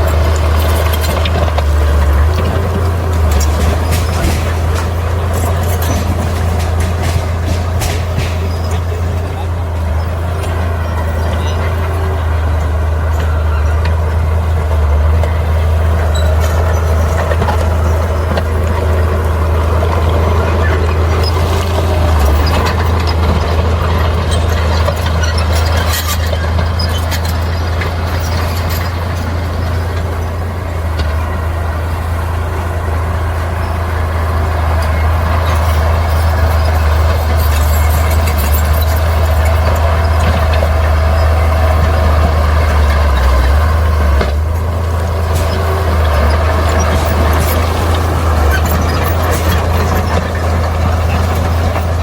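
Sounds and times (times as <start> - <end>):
heavy diesel machinery engine drone: 0.0 - 52.0.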